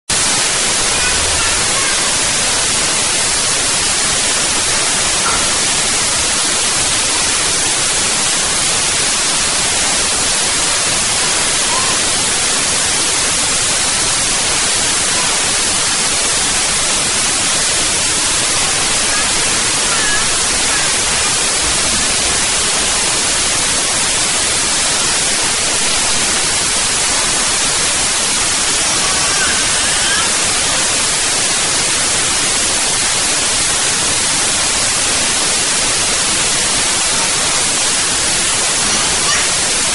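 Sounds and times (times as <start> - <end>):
static hiss: 0.1 - 39.9.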